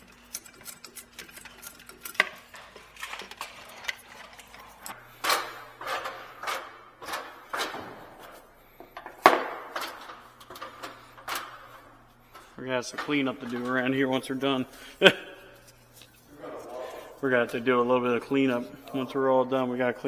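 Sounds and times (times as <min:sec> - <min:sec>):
scraping metal parts: 0:00.0 - 0:19.2.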